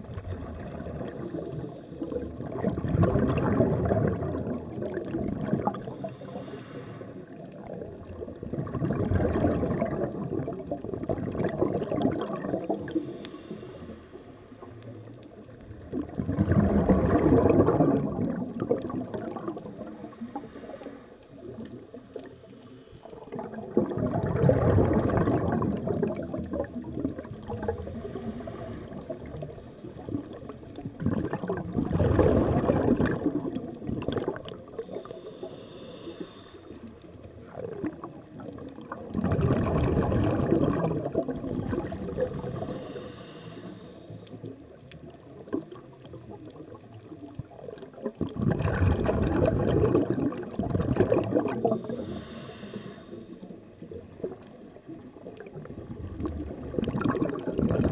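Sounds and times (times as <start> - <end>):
underwater breath bubbles: 0.0 - 57.9.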